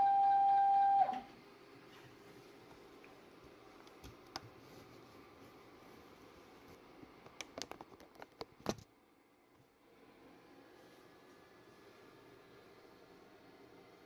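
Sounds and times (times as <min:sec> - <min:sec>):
faint background hum: 0:00.0 - 0:14.0.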